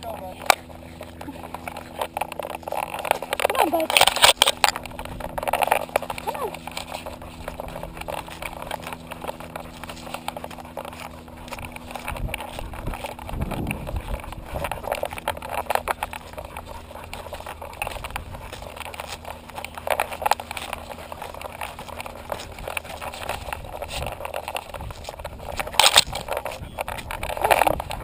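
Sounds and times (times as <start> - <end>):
branches brushing camera: 0.0 - 28.0
camera rig rattling: 0.0 - 28.0
dog paws on dirt trail: 0.0 - 28.0.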